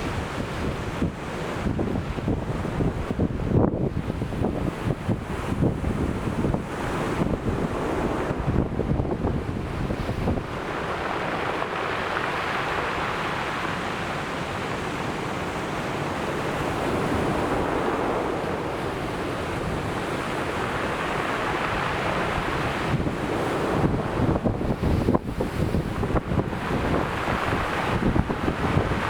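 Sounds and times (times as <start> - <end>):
ocean surf washing: 0.0 - 29.0
wind buffeting microphone: 0.0 - 29.0.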